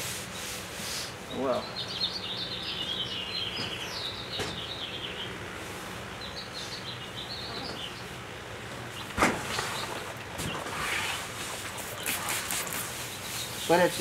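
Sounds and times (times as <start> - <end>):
small birds chirping: 0.3 - 14.0.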